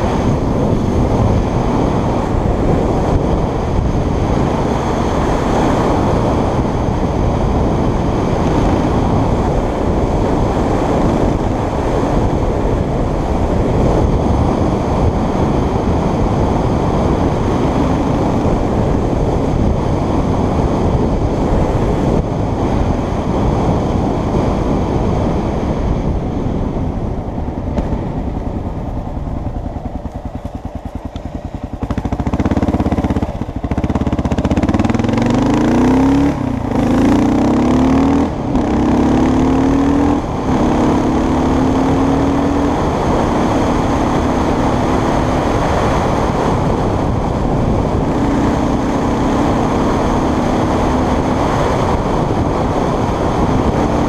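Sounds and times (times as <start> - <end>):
motorcycle engine at speed: 0.0 - 54.0
wind noise on microphone: 0.0 - 54.0.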